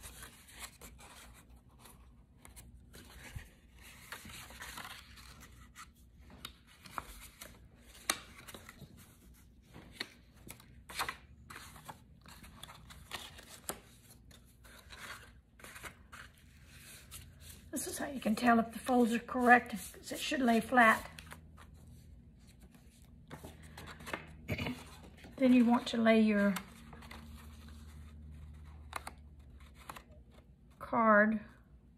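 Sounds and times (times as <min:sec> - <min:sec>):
paper rustling: 0:00.0 - 0:30.5
sharp crackles of folding card: 0:00.0 - 0:30.8.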